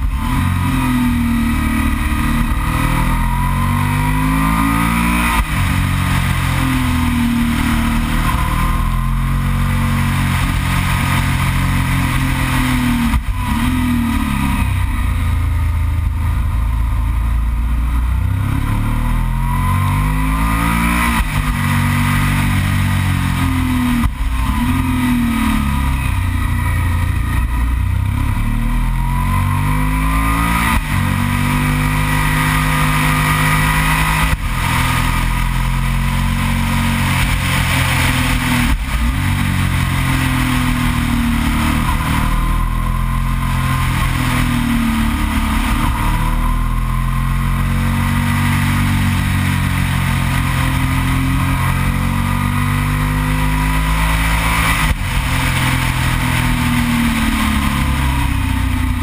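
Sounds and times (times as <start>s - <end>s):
motorcycle engine under way: 0.0s - 59.0s.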